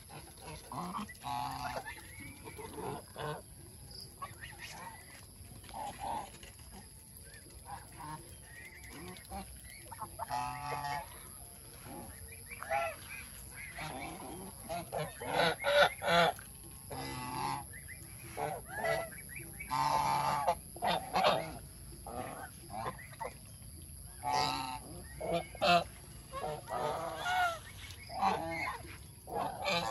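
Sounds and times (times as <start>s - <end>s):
geese honking: 0.0s - 3.5s, 7.6s - 23.4s, 24.2s - 29.9s.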